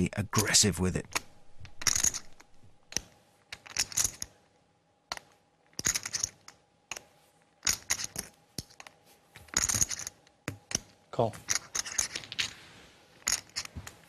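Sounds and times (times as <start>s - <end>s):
clay poker chips clicking: 1.0s - 4.4s, 5.1s - 12.6s, 13.2s - 13.7s.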